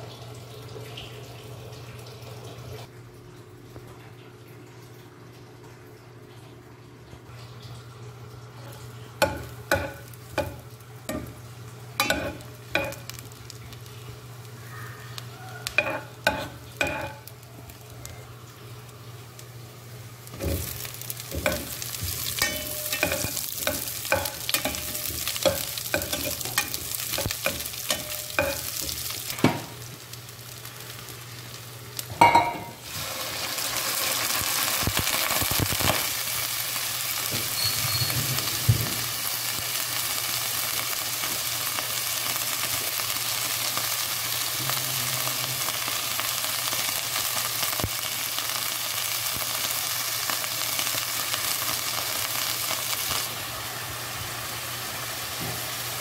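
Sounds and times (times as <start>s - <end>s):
chicken frying: 0.0s - 2.9s, 7.3s - 56.0s
garlic and onion sizzling in oil: 8.2s - 56.0s.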